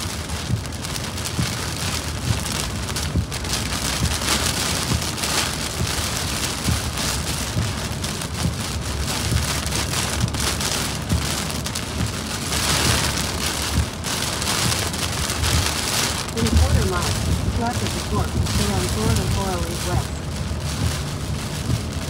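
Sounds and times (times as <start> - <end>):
rain hissing on car: 0.0 - 22.0
tyre noise on wet road: 0.0 - 22.0.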